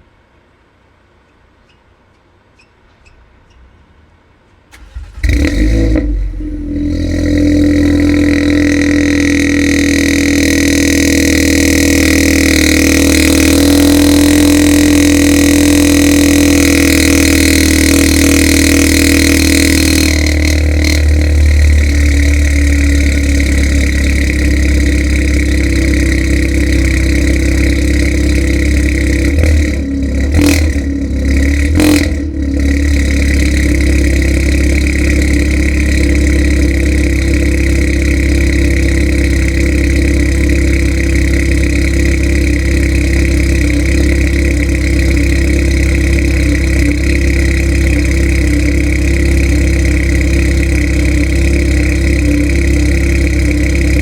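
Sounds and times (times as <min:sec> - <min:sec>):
car engine idling: 0:04.7 - 0:54.0.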